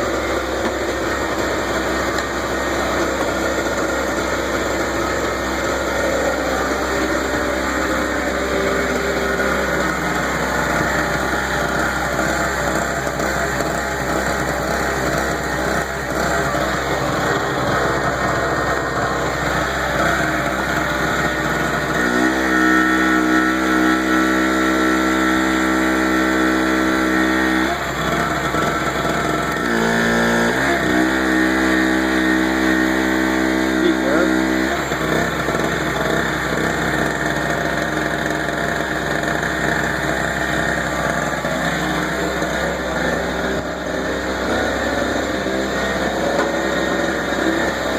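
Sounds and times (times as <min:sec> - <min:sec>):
generator running: 0:00.0 - 0:47.9
strong steady hum: 0:00.0 - 0:47.9.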